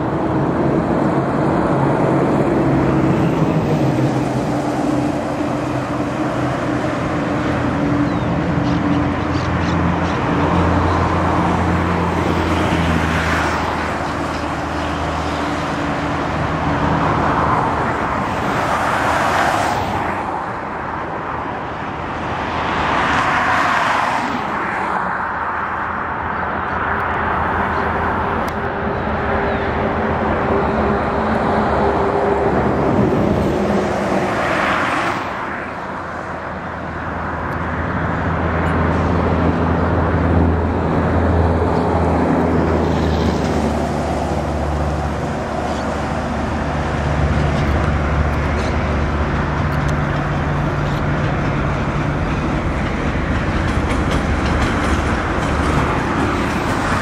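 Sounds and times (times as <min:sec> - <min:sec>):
diesel locomotive droning: 0:00.0 - 0:19.2, 0:19.8 - 0:57.0
highway traffic passing: 0:00.0 - 0:57.0.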